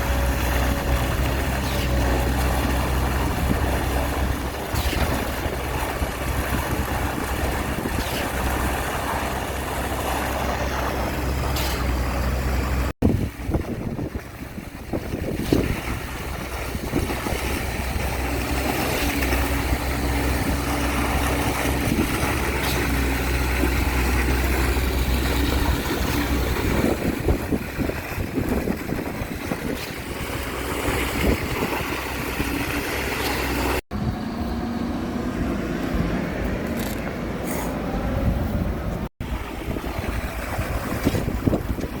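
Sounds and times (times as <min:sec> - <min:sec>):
heavy truck engine running: 0:00.0 - 0:13.0, 0:16.0 - 0:42.0.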